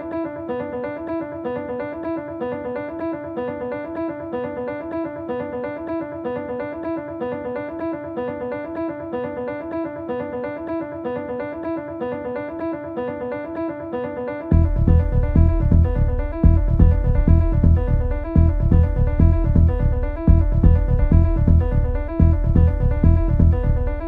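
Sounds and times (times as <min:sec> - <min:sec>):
looping electronic keyboard notes: 0:00.0 - 0:24.0.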